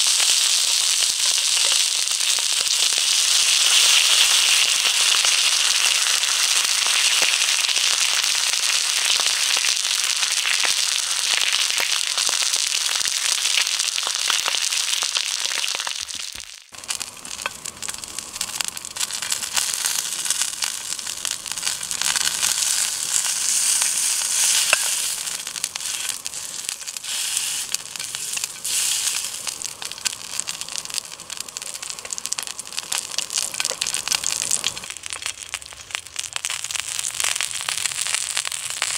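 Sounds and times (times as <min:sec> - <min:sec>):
steak sizzling in a frying pan: 0:00.0 - 0:38.9.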